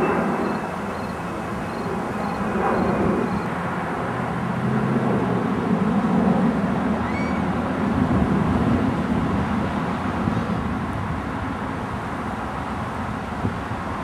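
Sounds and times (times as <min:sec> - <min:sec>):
low rumble of street noise: 0:00.0 - 0:14.0.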